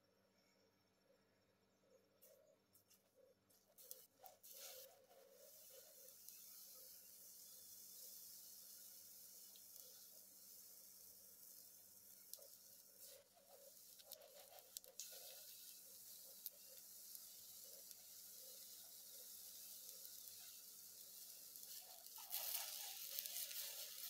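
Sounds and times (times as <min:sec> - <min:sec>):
oil crackles: 0:03.5 - 0:24.0
oil sizzling in a frying pan: 0:03.8 - 0:24.0.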